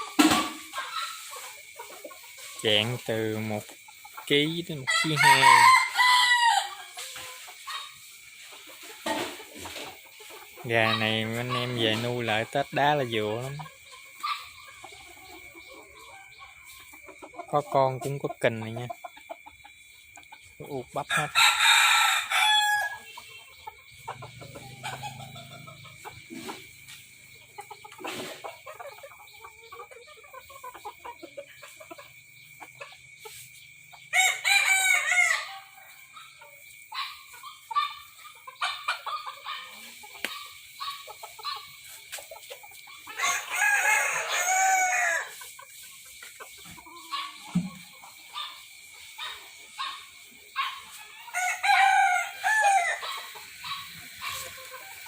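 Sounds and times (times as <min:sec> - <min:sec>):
cockerels crowing: 0:00.0 - 0:08.0, 0:10.6 - 0:41.8, 0:42.8 - 0:45.6, 0:46.5 - 0:55.0.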